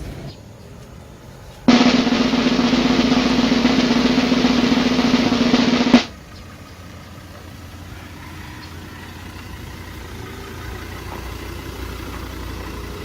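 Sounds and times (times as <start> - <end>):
car engine running: 1.7 - 13.0.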